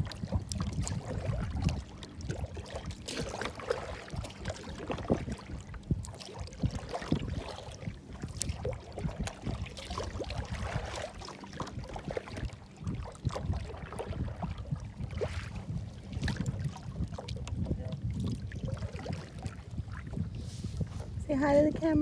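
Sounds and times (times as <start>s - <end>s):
small waves slapping against hull: 0.0s - 22.0s.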